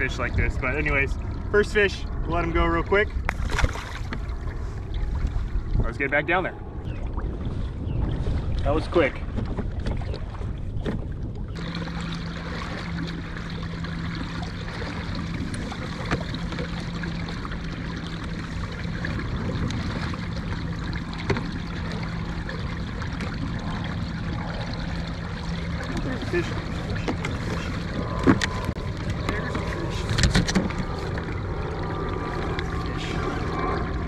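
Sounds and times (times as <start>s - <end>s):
water splashing along a hull: 0.0s - 34.0s.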